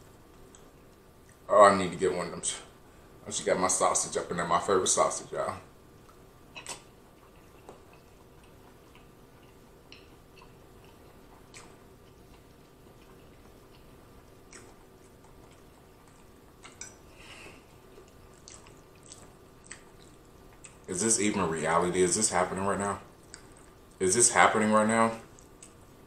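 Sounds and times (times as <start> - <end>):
faint chewing with wet smacks: 0.0 - 1.5, 5.9 - 21.8, 22.4 - 26.0.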